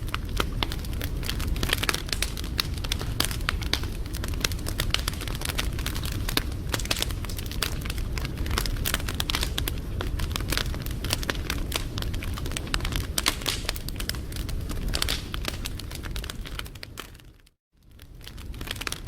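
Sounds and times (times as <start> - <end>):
low fire rumble: 0.0 - 19.0
wood fire pops and snaps: 0.0 - 19.0.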